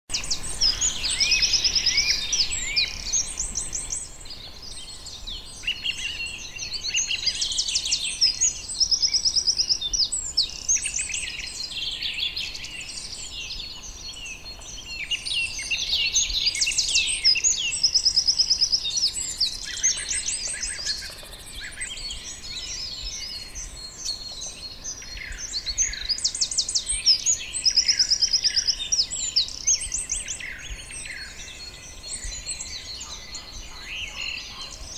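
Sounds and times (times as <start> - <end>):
songbirds trilling and chirping: 0.1 - 34.9.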